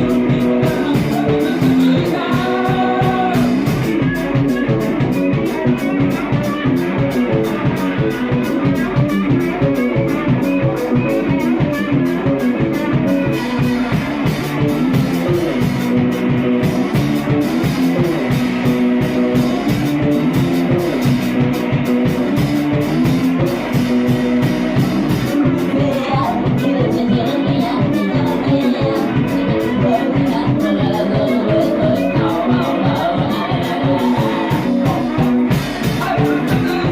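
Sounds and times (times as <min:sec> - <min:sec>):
rock music with guitar and drums: 0:00.0 - 0:36.9.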